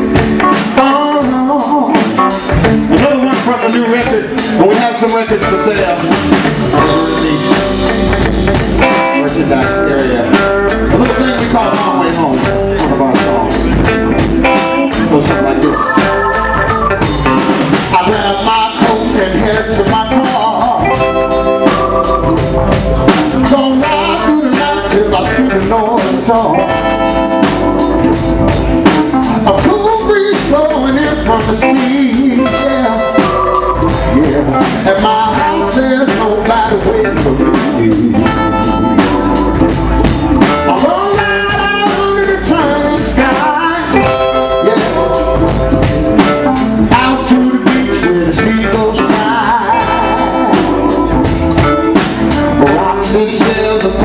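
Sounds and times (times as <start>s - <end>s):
man singing: 0.0s - 21.7s, 23.1s - 27.5s, 29.4s - 54.0s
blues band playing: 0.0s - 54.0s
drum beat: 0.0s - 54.0s.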